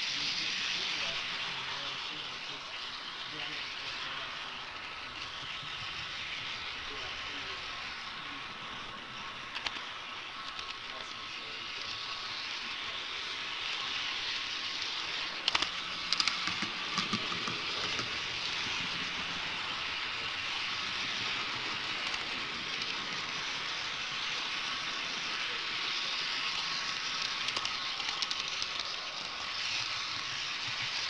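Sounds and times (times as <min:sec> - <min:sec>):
model train wheels and motor: 0:00.0 - 0:31.0.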